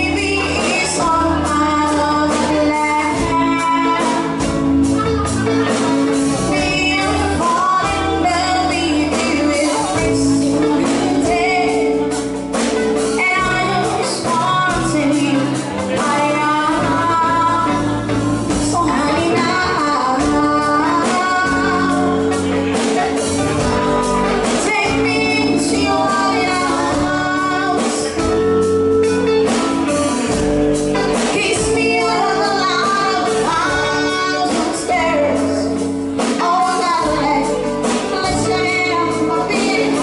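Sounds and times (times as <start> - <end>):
bass guitar: 0.0 - 40.0
electric guitar: 0.0 - 40.0
keyboard: 0.0 - 40.0
steady drum beat: 0.0 - 40.0
woman singing: 0.0 - 40.0.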